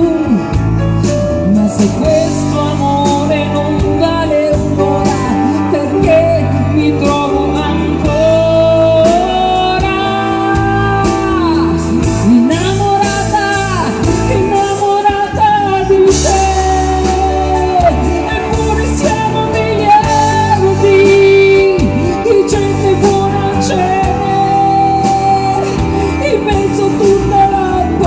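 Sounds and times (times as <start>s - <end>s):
female singer: 0.0s - 28.0s
pop-rock band playing: 0.0s - 28.0s.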